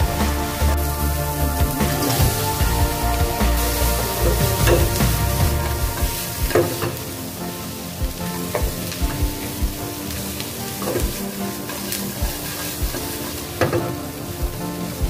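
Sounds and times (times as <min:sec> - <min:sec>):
food sizzling in a frying pan: 0:00.2 - 0:14.2.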